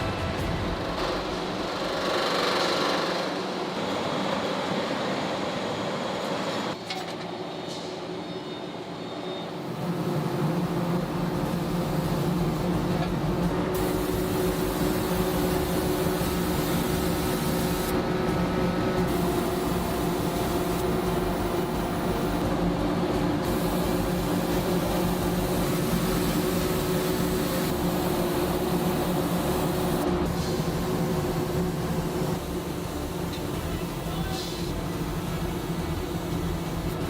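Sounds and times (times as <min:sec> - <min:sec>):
steady mechanical drone: 0:00.0 - 0:06.8, 0:09.6 - 0:37.0.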